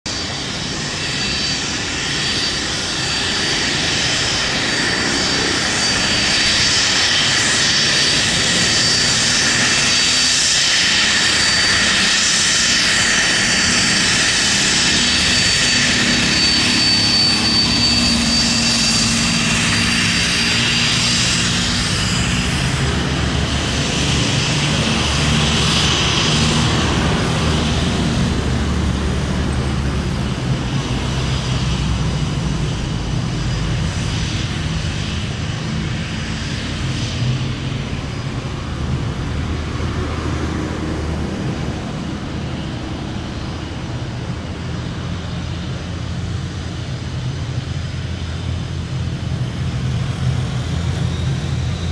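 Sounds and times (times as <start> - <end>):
jet engine whine and hiss: 0.1 - 51.9
low jet rumble: 0.1 - 51.9.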